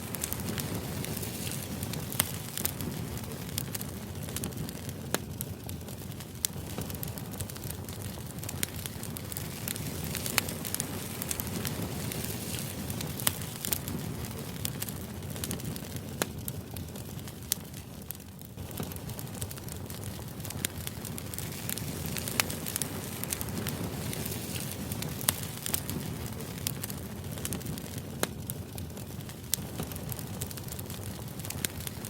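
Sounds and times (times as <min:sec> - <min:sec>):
fire crackling and popping: 0:00.0 - 0:32.0
low fire rumble: 0:00.0 - 0:32.0.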